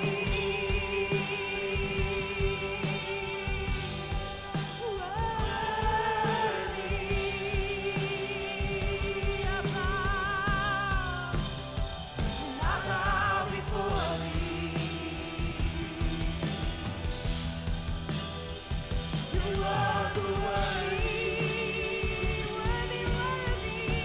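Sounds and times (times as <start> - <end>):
drum beat: 0.0 - 24.0
worship band playing slow song: 0.0 - 24.0.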